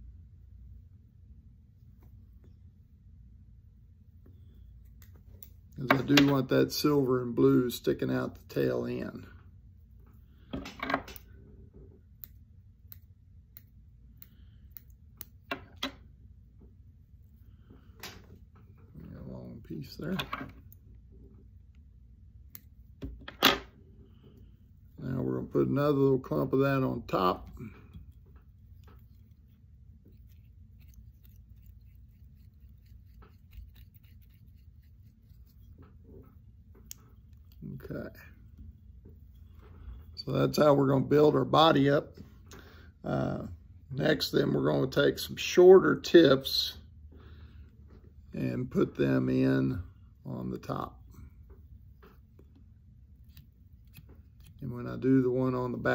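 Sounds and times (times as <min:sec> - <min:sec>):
low room hum: 0:00.0 - 0:55.9.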